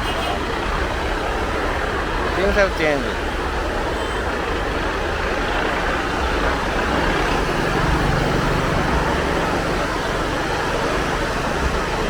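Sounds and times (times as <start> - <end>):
vehicle and road rumble: 0.0 - 12.0.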